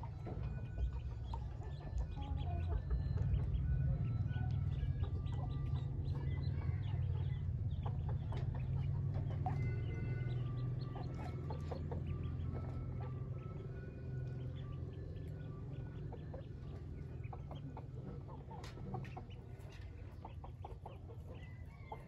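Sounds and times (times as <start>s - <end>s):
ducklings peeping: 0.0s - 22.0s
steady low hum: 0.0s - 22.0s.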